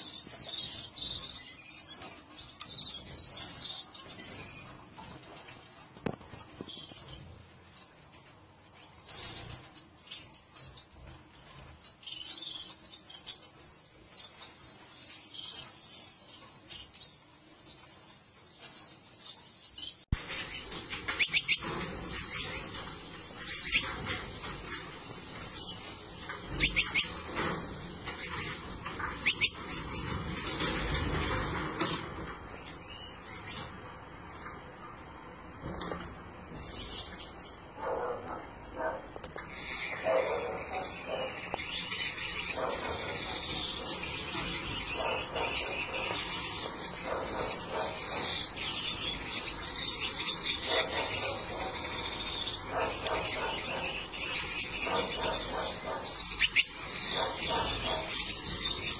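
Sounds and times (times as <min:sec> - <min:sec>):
finches chirping: 0:00.0 - 0:05.2, 0:08.6 - 0:33.7, 0:36.5 - 0:58.9.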